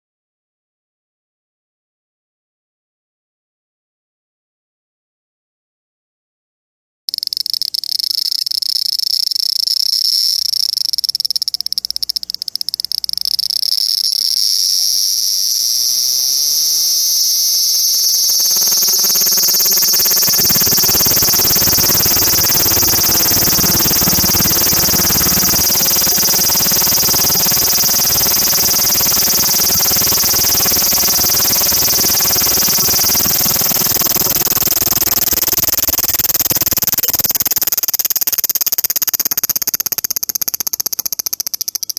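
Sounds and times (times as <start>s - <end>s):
cicada high-pitched buzz: 7.1s - 41.9s.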